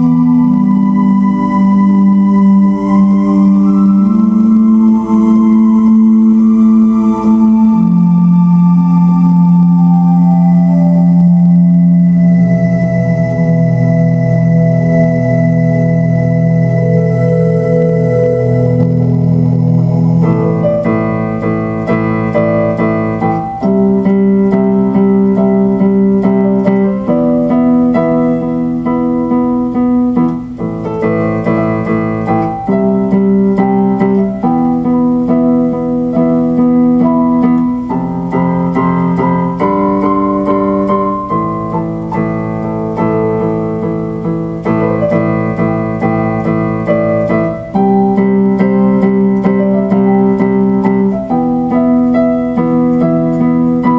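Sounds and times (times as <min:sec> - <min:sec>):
electric piano chords: 0:00.0 - 0:53.9.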